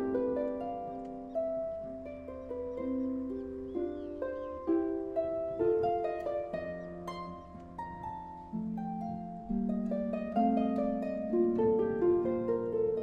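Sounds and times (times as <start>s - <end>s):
plucked string melody: 0.0s - 13.0s.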